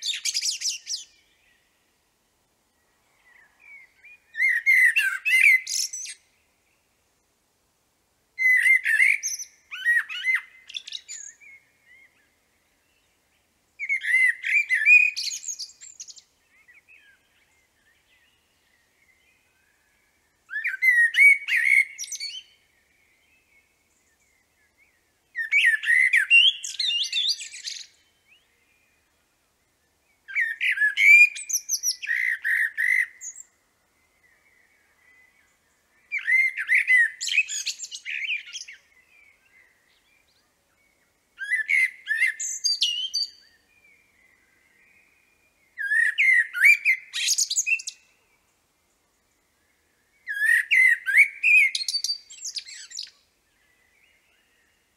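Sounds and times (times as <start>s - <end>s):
blackbird singing: 0.0s - 1.7s, 3.1s - 6.5s, 8.4s - 29.2s, 29.9s - 54.9s.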